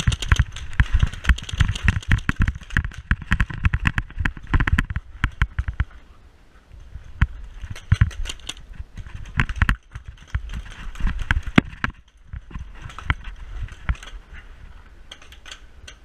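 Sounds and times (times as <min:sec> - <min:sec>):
gear knocking: 0:00.0 - 0:05.9, 0:07.1 - 0:14.4
microphone handling rumble: 0:00.0 - 0:06.1, 0:06.8 - 0:15.1.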